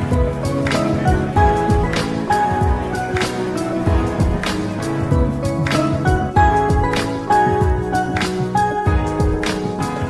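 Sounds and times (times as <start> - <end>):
song with steady beat: 0.0 - 10.0.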